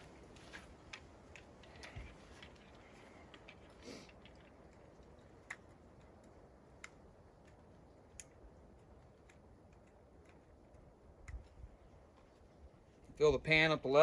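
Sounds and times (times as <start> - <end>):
faint metal and wood clicks: 0.0 - 13.2.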